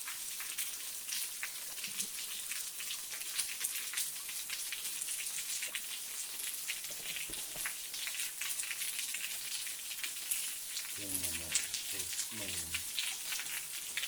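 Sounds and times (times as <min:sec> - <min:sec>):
small waterfall trickling: 0:00.0 - 0:14.0.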